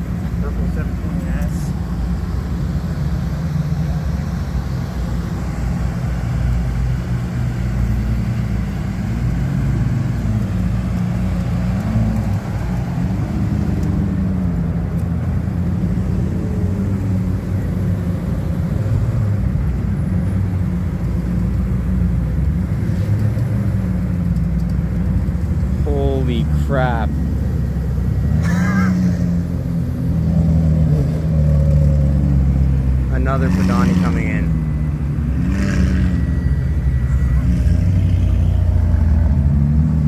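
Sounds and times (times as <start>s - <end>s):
car engines revving past: 0.0s - 40.0s.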